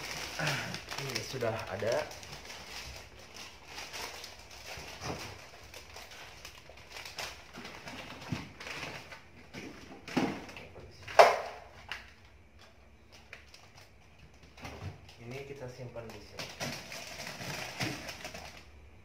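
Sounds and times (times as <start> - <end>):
plastic-wrapped food packs rustling: 0.0 - 18.8.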